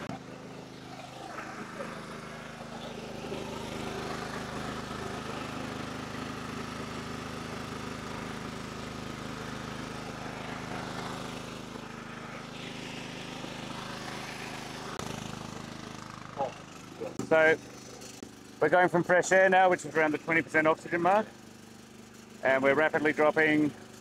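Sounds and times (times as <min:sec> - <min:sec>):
generator engines droning: 0:00.0 - 0:24.0.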